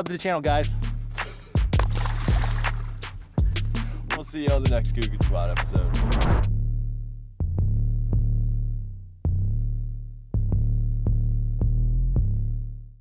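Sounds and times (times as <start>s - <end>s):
deep synth bass notes: 0.6s - 2.4s, 3.4s - 13.0s.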